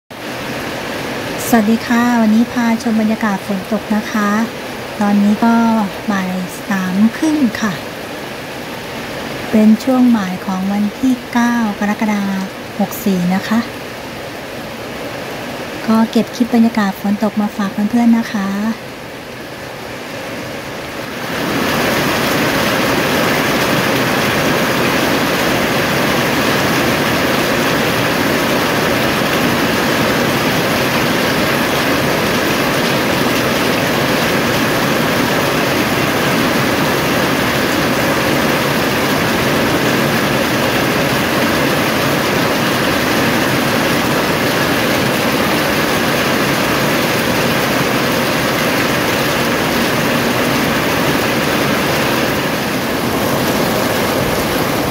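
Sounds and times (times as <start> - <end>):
rain on metal roofs: 0.1 - 54.9.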